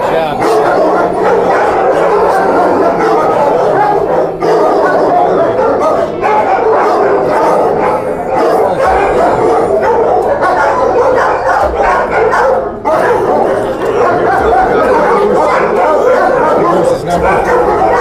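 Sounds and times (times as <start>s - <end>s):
dogs barking echoing: 0.0s - 18.0s.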